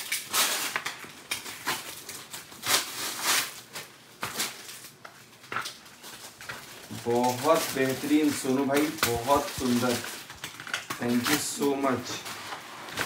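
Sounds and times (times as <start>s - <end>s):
gift packaging rustling: 0.0s - 13.0s.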